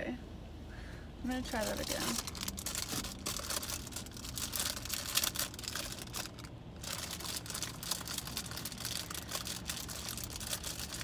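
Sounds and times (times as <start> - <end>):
crinkling and rustling: 1.4 - 11.0.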